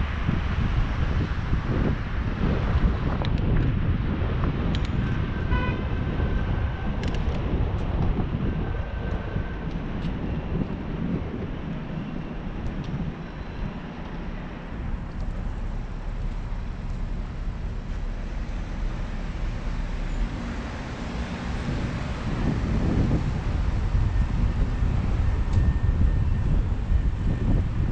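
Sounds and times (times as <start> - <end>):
wind rushing over microphone: 0.0 - 27.9.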